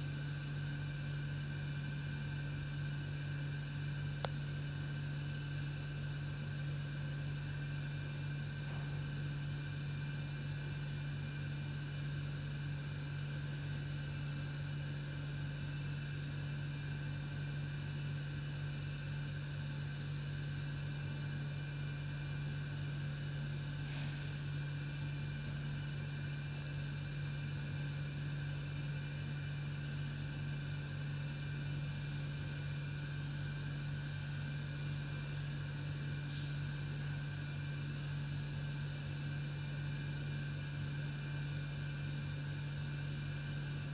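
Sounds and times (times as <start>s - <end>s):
low machine hum: 0.0s - 43.9s.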